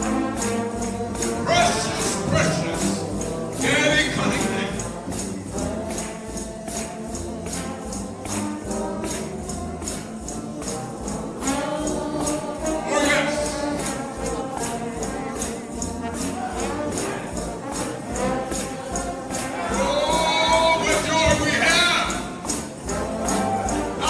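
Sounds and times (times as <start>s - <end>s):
brass band playing gospel: 0.0s - 24.0s
tambourines shaking: 0.0s - 24.0s.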